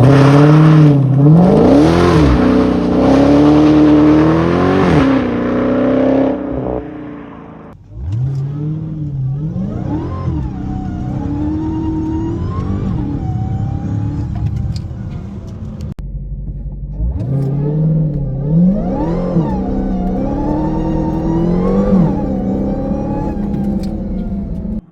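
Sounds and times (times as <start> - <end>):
car engine accelerating through gears: 0.0 - 24.9.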